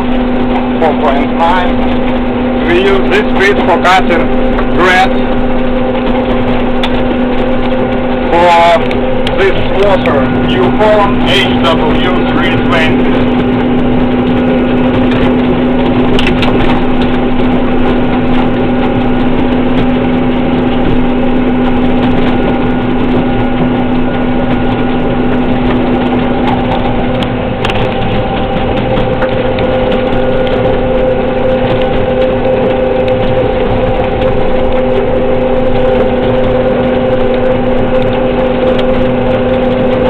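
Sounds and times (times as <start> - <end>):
engine and machinery drone: 0.0 - 40.0.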